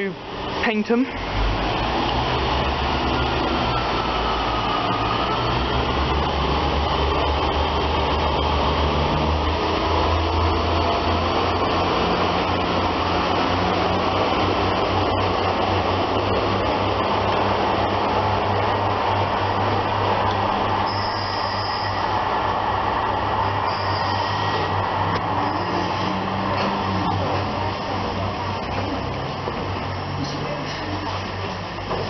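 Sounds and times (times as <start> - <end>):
train diesel engines droning: 0.0 - 32.0.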